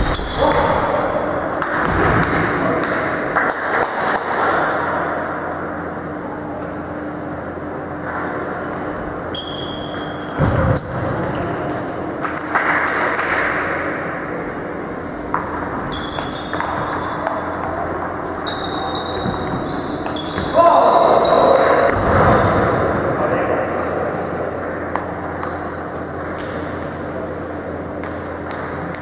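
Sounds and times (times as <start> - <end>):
low hum in hall: 0.0 - 29.0.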